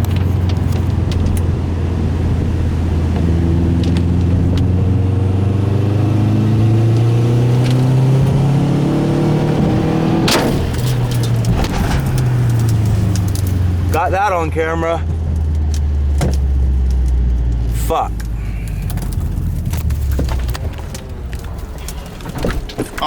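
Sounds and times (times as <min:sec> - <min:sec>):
car engine accelerating: 0:00.0 - 0:22.3.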